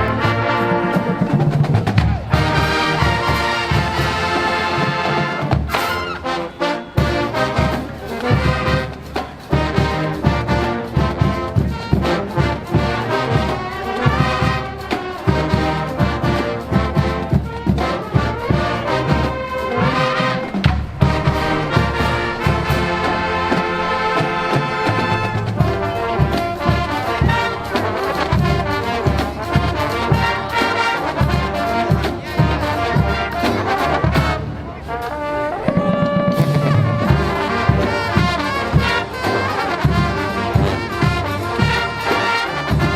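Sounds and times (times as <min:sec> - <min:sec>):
steady drum beat: 0:00.0 - 0:34.4, 0:35.6 - 0:42.9
trumpets and trombones: 0:00.0 - 0:42.9.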